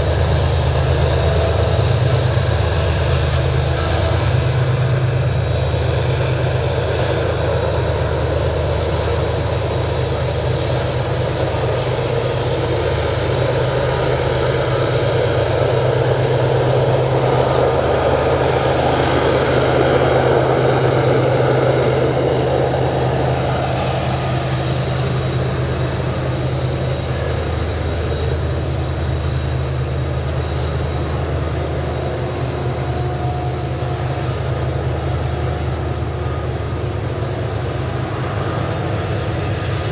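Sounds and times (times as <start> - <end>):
locomotive engine drone: 0.0 - 39.9.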